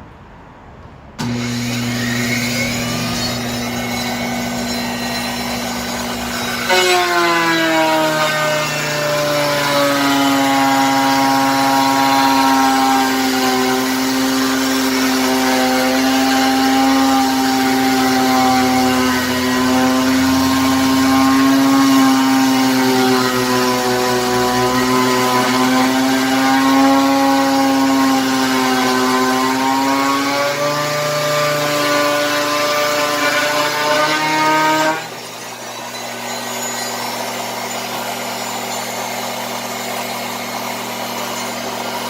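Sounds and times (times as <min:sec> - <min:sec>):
power tool whining: 0:01.2 - 0:42.0.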